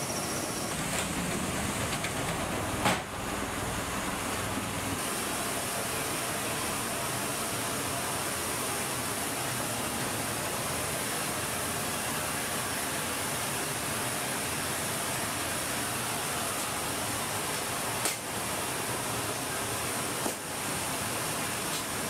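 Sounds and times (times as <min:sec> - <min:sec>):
aircraft engine rushing hiss: 0:00.0 - 0:22.0.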